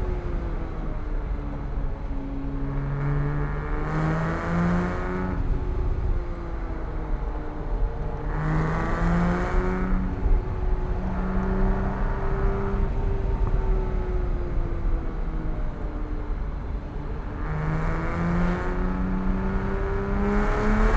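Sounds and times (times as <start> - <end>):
car engine accelerating: 2.5 - 20.9.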